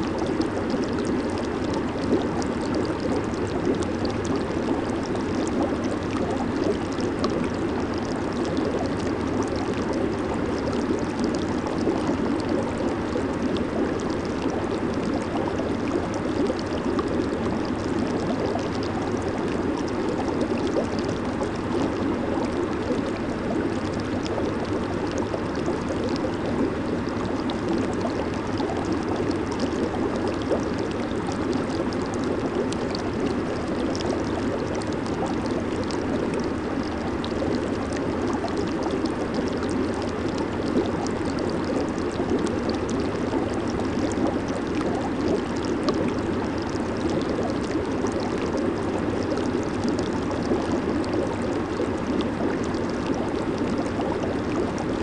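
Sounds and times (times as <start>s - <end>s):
hot tub water bubbling: 0.0s - 55.0s.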